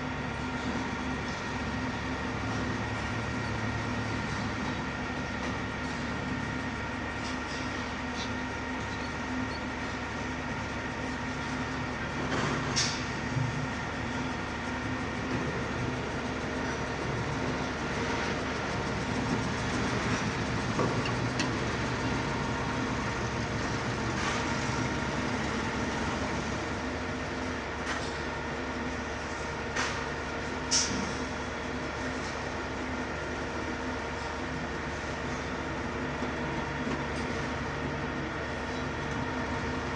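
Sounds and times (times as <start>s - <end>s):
mechanical rumble with hum: 0.0s - 39.9s.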